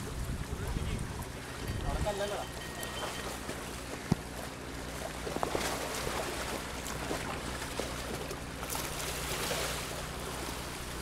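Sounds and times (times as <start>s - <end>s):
boat motor running: 0.0s - 11.0s
water splashing along a hull: 0.0s - 11.0s.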